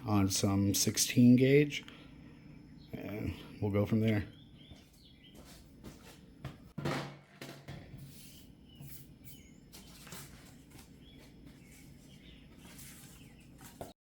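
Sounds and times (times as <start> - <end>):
small birds chirping: 0.0 - 6.7, 8.0 - 14.0.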